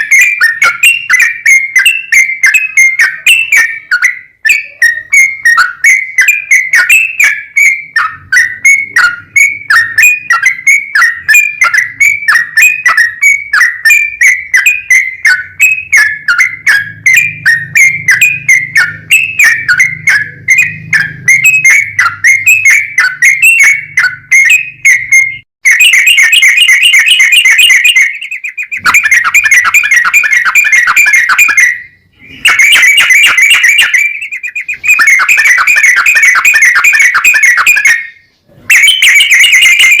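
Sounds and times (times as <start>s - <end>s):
bulbul singing: 0.0s - 40.0s.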